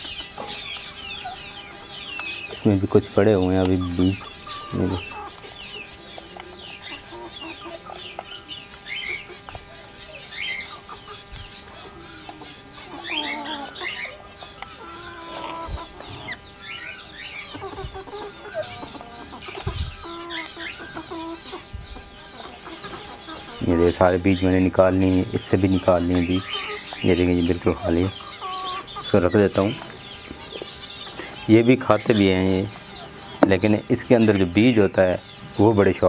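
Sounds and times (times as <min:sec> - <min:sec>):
hens clucking: 0:00.0 - 0:36.0
parakeets chattering: 0:00.0 - 0:36.0.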